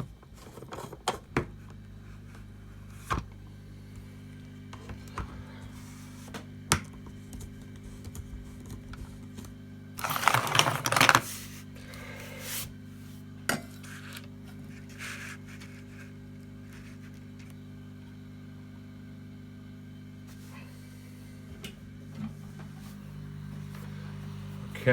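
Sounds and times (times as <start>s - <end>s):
electrical hum: 0.0s - 24.9s.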